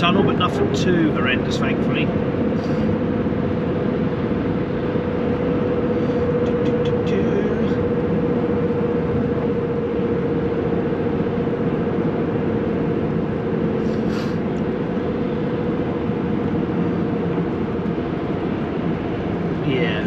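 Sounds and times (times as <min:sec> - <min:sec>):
road and engine noise in cabin: 0:00.0 - 0:20.0.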